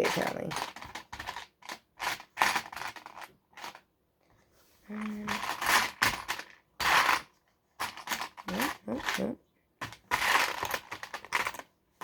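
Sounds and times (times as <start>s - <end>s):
plastic pieces clicking and rattling: 0.0s - 3.9s, 5.0s - 11.7s.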